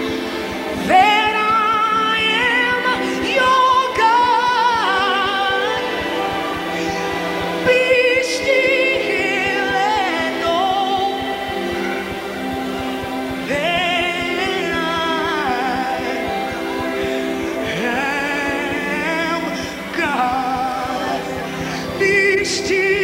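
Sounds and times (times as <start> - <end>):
steady held chords: 0.0 - 23.0
woman singing gospel: 0.0 - 23.0.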